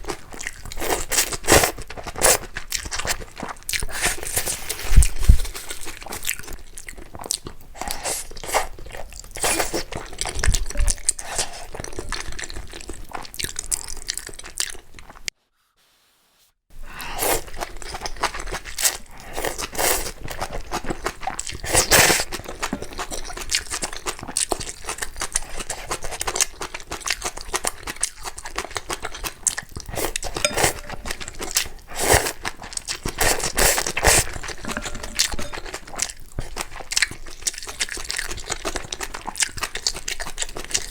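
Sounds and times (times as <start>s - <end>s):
person crunching and chewing food: 0.0s - 15.3s, 17.0s - 40.9s.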